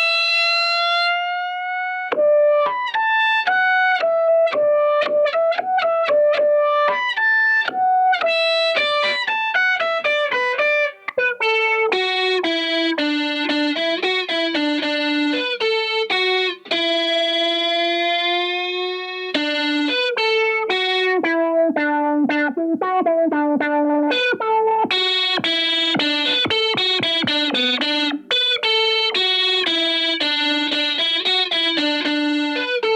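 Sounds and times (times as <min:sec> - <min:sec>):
synth electric guitar melody: 0:00.0 - 0:32.9.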